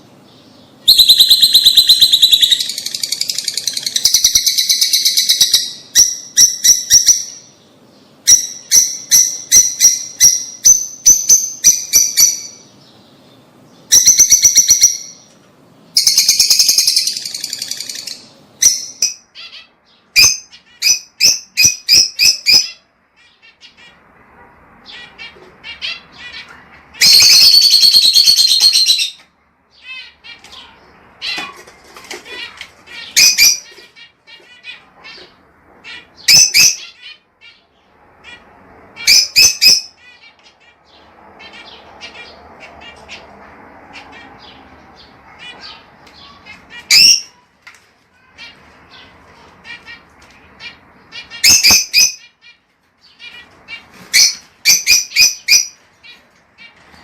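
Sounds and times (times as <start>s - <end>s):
lovebirds chirping: 0.0s - 57.0s
shrill bird calls: 0.3s - 7.6s, 13.8s - 15.3s, 15.9s - 24.0s, 24.8s - 47.5s, 48.1s - 57.0s.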